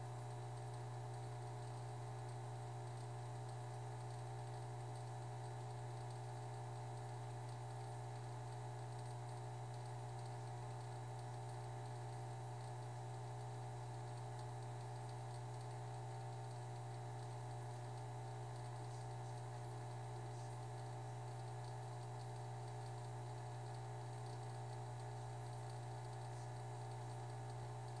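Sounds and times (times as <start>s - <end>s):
low electrical hum: 0.0s - 28.0s
faint light ticks: 0.2s - 28.0s.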